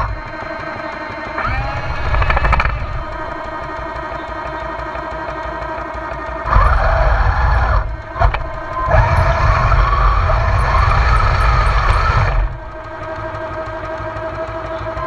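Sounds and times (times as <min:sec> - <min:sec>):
model tank motors and tracks: 0:00.0 - 0:15.0.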